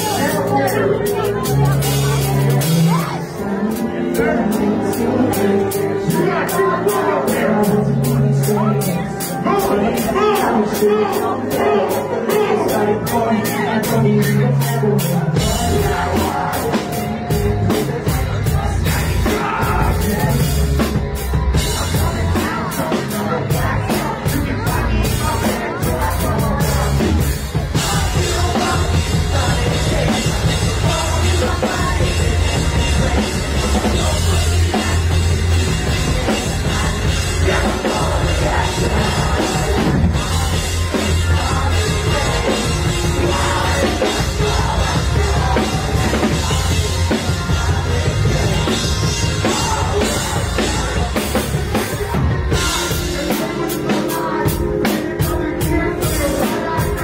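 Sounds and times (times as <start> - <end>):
drum kit: 0.0 - 57.0
electric bass: 0.0 - 57.0
live rock band playing: 0.0 - 57.0.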